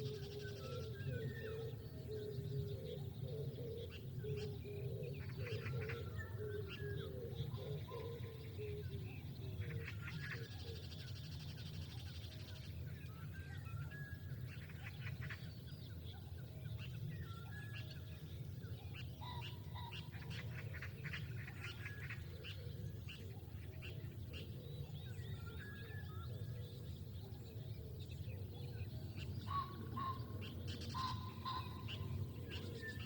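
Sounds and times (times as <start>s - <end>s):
wild birds chirping: 0.0s - 33.0s.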